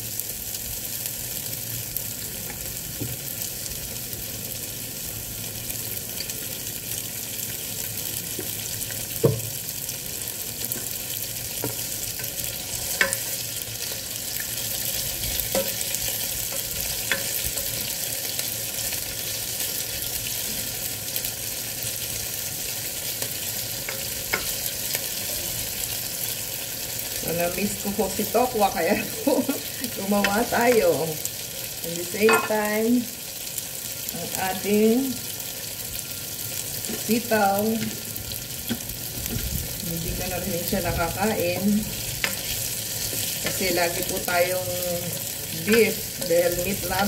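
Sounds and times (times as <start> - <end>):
tofu sizzling in oil: 0.0 - 47.0.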